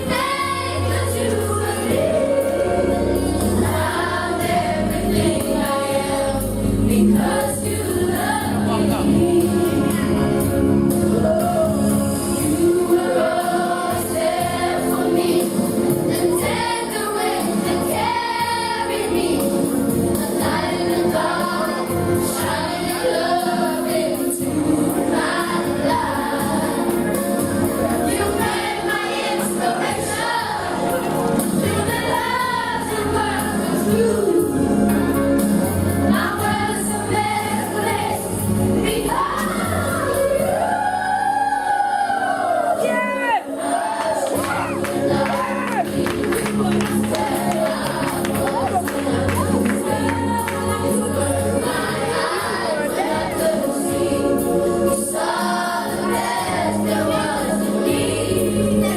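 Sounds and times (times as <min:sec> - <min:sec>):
choir singing a gospel hymn: 0:00.0 - 0:58.9
musical accompaniment: 0:00.0 - 0:58.9.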